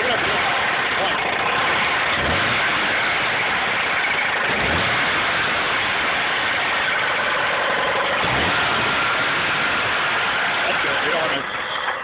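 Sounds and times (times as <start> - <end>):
engine with rapid knocking: 0.0 - 12.0.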